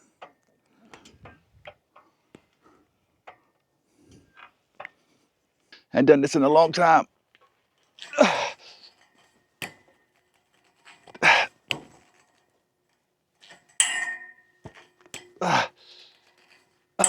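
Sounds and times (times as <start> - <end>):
seesaw thunks and creaks: 0.0 - 5.9, 6.6 - 17.0.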